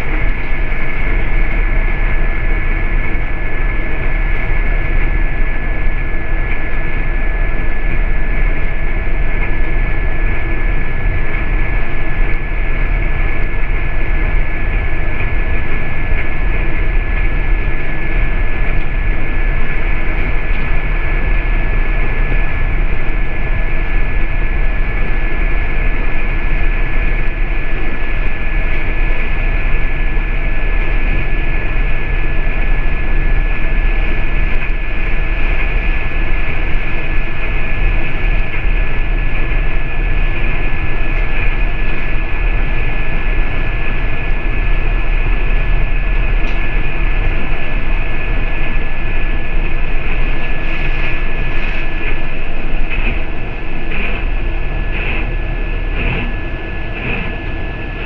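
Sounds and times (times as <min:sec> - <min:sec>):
bus engine and road rumble: 0:00.0 - 0:58.0
constant high whine: 0:00.0 - 0:58.0.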